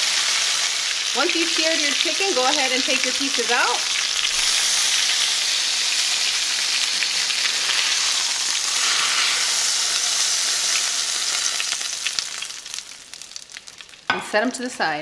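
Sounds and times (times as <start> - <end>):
oil and butter sizzling in pan: 0.0 - 14.8.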